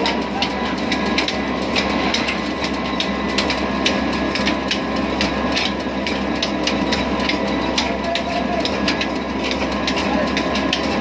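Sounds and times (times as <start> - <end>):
mill machinery clattering: 0.0 - 11.0.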